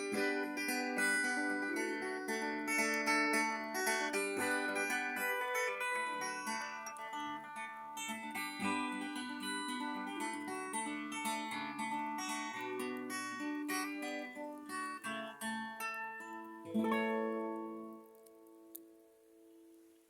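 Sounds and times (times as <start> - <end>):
acoustic guitar playing chords: 0.0 - 20.0.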